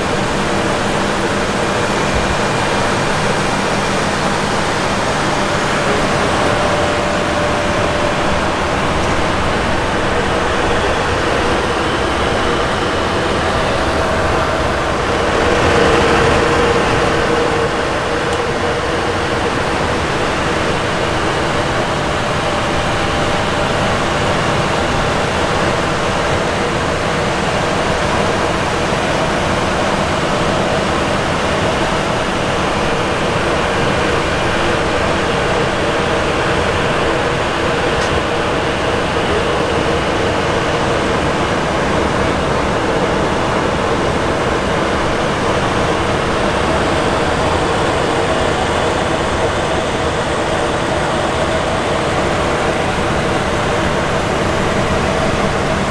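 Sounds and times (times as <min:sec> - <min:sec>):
ventilation air and fans rushing: 0:00.0 - 0:55.9.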